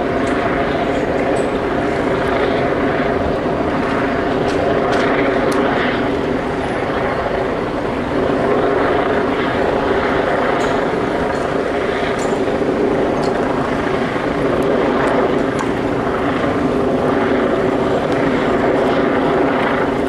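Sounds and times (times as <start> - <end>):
helicopter drone overhead: 0.0 - 20.0.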